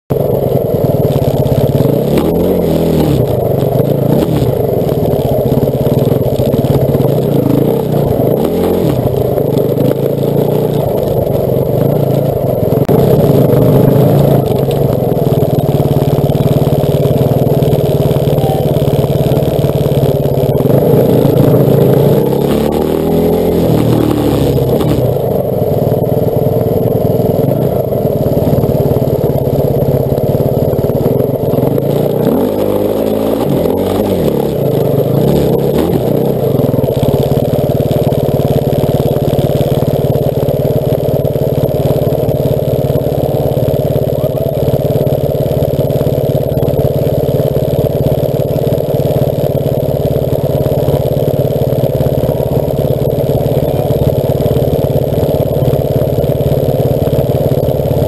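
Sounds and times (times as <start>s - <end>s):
constant low rumble: 0.1s - 58.0s
motorcycle engines revving: 0.1s - 58.0s.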